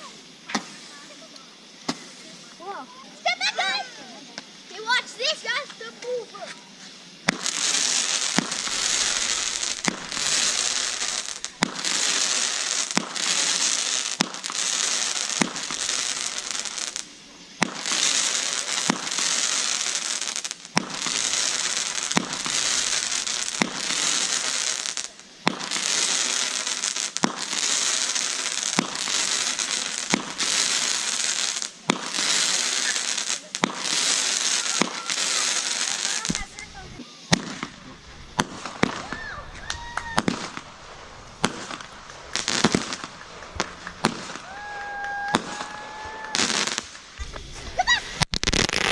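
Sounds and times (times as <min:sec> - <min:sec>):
firework crackling pops: 0:00.0 - 0:48.9
firework hissing: 0:00.0 - 0:48.9.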